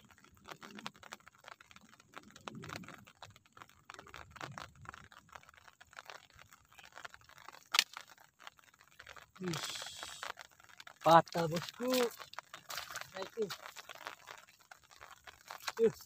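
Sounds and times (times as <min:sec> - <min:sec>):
raindrops tapping: 0:00.0 - 0:16.0.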